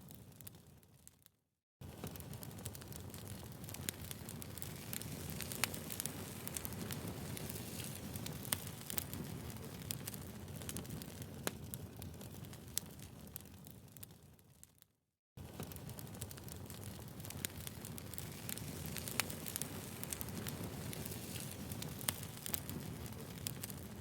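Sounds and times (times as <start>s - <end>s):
low rumble of burning logs: 1.8s - 14.8s, 15.4s - 24.0s
wood fire crackling and popping: 1.8s - 24.0s.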